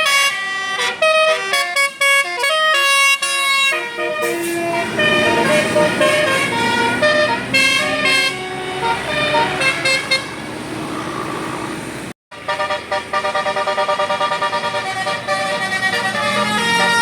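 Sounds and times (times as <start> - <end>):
bus horn playing a melody: 0.0 - 17.0.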